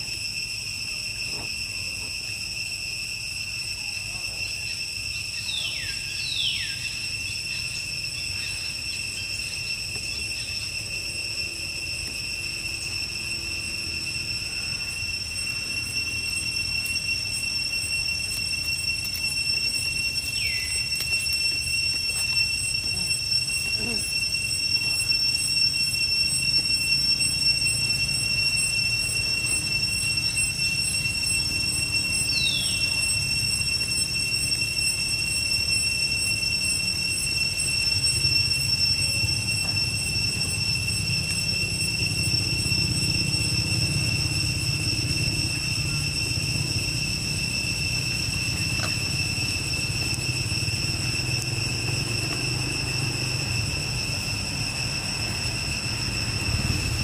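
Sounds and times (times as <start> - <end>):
high-pitched insect drone: 0.0 - 57.0
short high falling calls: 0.0 - 57.0.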